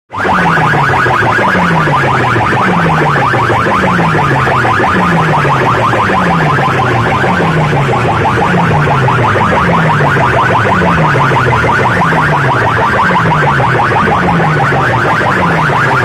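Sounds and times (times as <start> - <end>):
harsh alarm-like buzz: 0.1 - 16.0
falling bass tone: 0.2 - 16.0.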